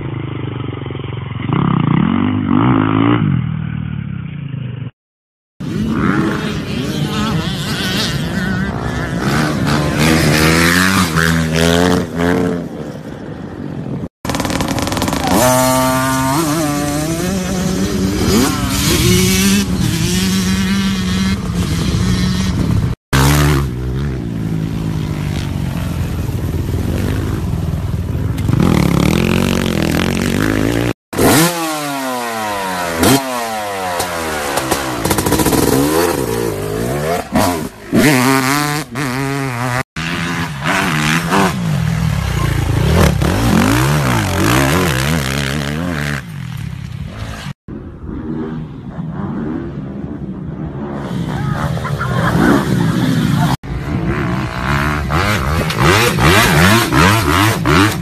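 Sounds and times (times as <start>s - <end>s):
dirt bike engines revving: 0.0s - 4.9s, 5.6s - 58.0s.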